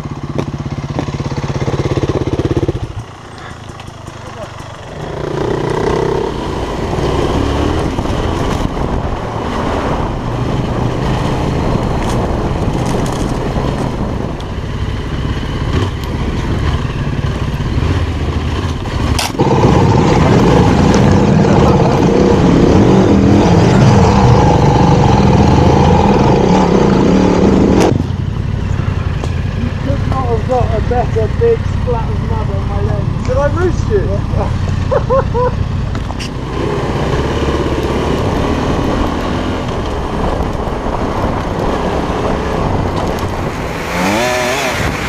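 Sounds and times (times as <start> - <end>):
motorcycle engine running: 0.0 - 45.0
wind noise: 4.9 - 45.0.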